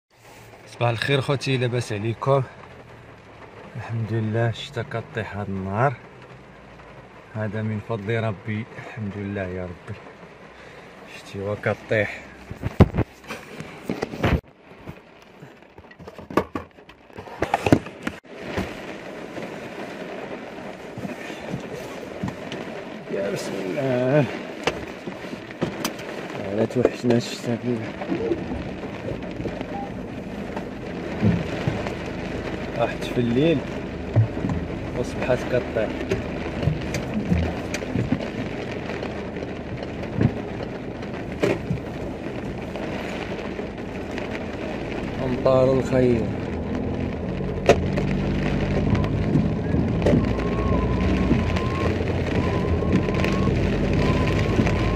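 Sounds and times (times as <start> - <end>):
road noise: 0.0 - 54.9
heavy rain on a car: 0.1 - 54.9
wind: 0.1 - 54.9.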